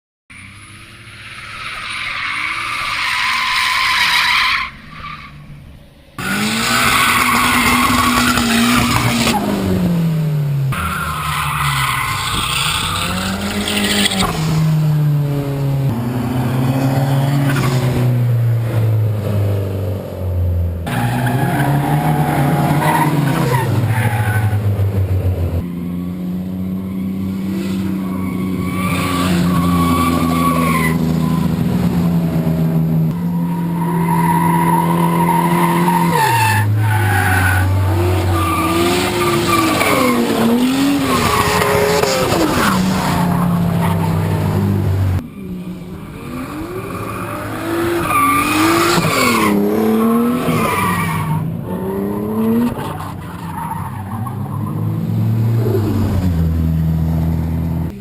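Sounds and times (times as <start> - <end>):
car engines at high revs: 6.2 - 58.0.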